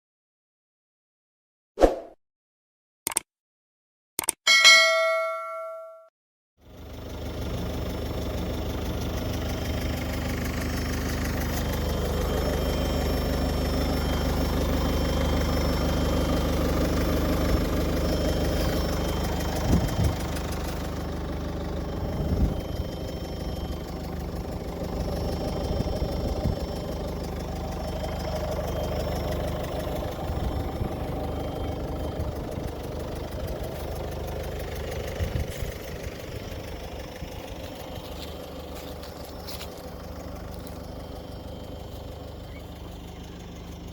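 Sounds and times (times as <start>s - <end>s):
engine idling: 6.6s - 43.9s.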